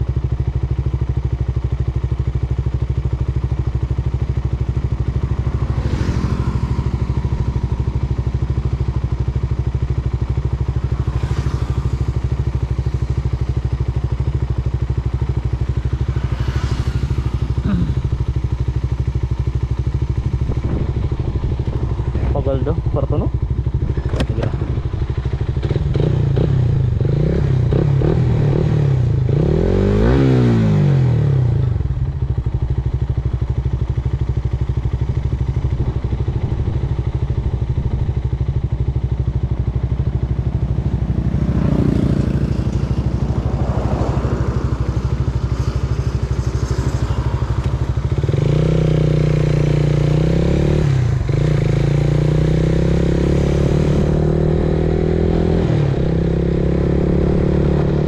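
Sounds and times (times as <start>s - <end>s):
motorcycle engine revving: 0.2s - 58.0s.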